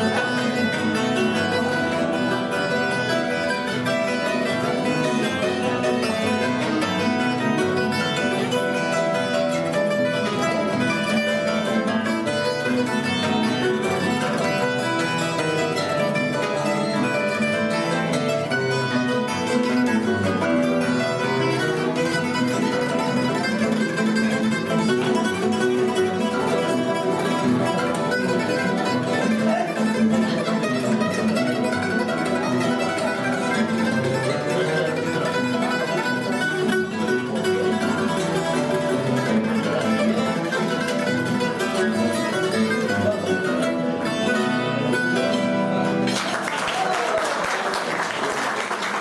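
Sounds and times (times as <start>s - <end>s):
classical guitar plucking chords: 0.0s - 46.5s
bright plucked guitar melody: 0.0s - 47.1s.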